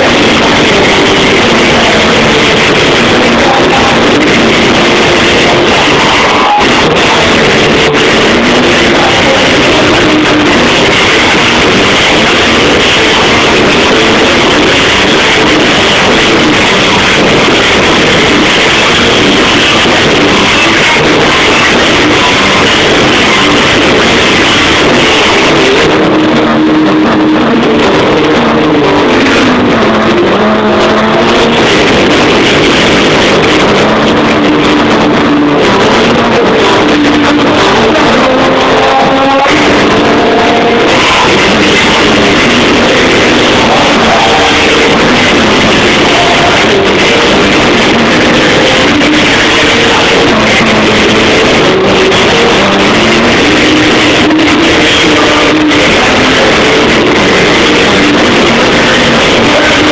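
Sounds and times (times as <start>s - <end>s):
electric guitar: 0.0s - 59.9s
live rock band playing: 0.0s - 59.9s.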